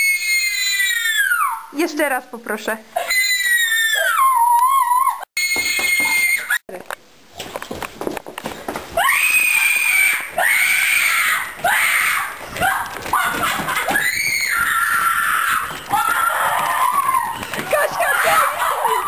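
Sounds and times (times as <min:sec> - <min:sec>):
girl screaming: 0:00.0 - 0:01.7, 0:03.0 - 0:06.6, 0:09.0 - 0:19.0.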